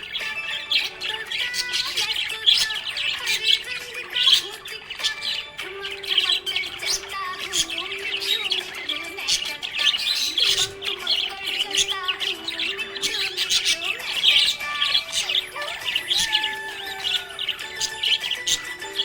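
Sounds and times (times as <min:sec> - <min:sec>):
budgerigars chirping and warbling: 0:00.0 - 0:19.0.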